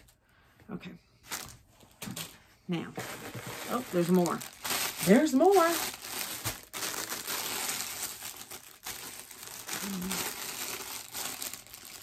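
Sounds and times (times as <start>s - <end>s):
plastic bags crinkling: 1.2s - 12.0s.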